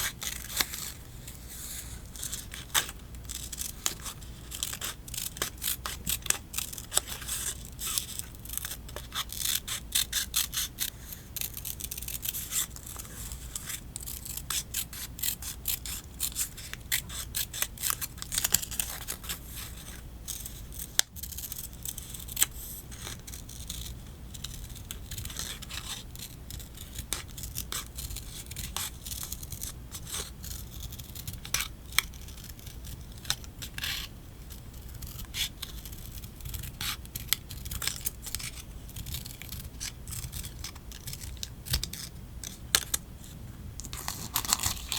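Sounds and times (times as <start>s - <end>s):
scissors snipping paper: 0.0s - 1.0s, 2.2s - 43.0s, 43.8s - 44.9s.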